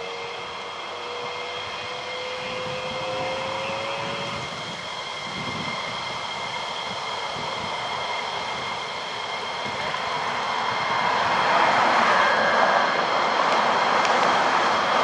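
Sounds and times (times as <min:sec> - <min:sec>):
jet engines taxiing: 0:00.0 - 0:15.0.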